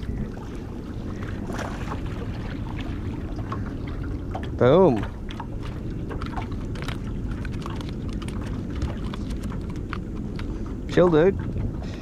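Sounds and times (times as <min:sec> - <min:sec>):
steady low rumble: 0:00.0 - 0:12.0
water lapping against boat hull: 0:00.0 - 0:12.0.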